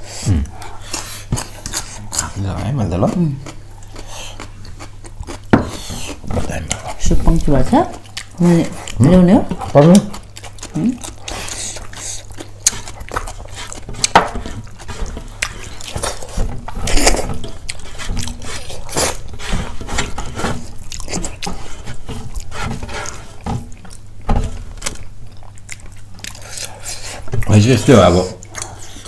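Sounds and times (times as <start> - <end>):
chewing: 0.4 - 29.0.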